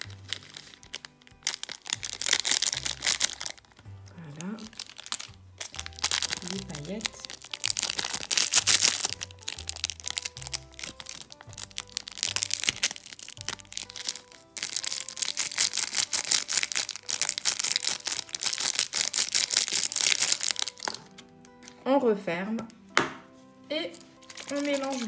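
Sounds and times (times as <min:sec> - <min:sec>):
plastic sachet crinkling: 0:00.0 - 0:21.8, 0:23.9 - 0:25.0
soft background music: 0:00.0 - 0:25.0.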